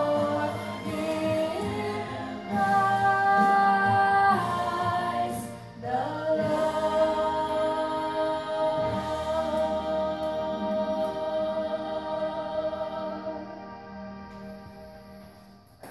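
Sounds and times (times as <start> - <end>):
woman singing sustained notes: 0.0 - 15.2.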